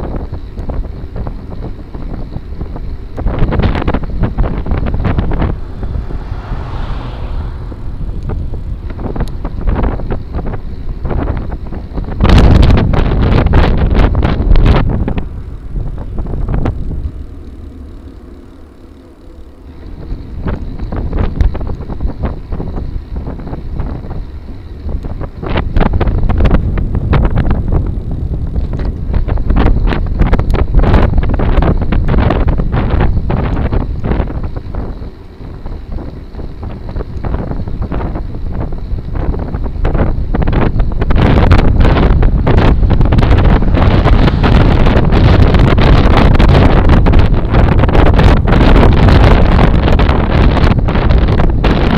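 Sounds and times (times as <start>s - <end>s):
wind rushing over microphone: 0.0s - 51.9s
bike knocking and rattling: 8.1s - 51.9s.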